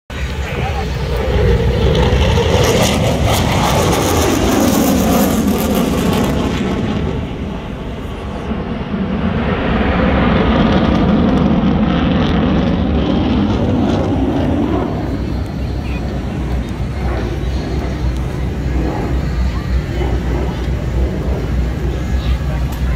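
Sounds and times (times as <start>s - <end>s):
fighter jet engine rumble: 0.1s - 22.9s.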